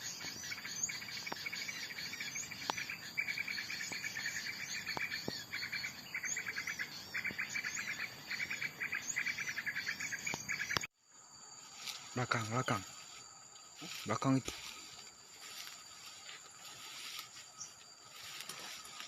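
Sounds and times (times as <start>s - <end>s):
pulsing insect-like trill: 0.0s - 19.0s
small birds chirping: 0.0s - 19.0s.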